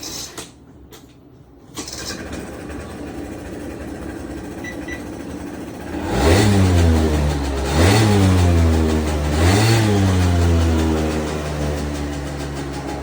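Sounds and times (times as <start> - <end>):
scooter engine revving: 1.8 - 13.0.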